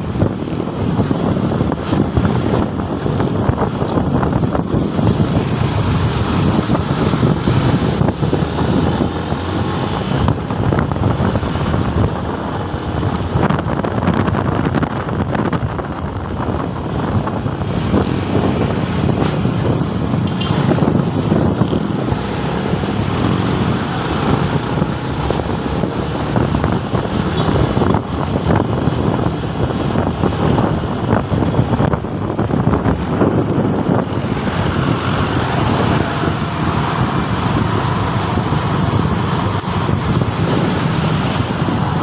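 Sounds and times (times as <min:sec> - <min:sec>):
city traffic: 0:00.0 - 0:42.0
motorcycle engine: 0:00.0 - 0:42.0
wind buffeting microphone: 0:00.0 - 0:42.0.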